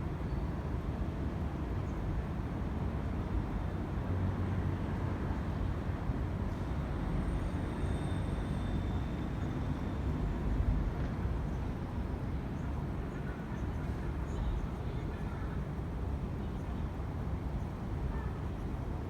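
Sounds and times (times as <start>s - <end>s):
city road traffic rumble: 0.0s - 19.0s.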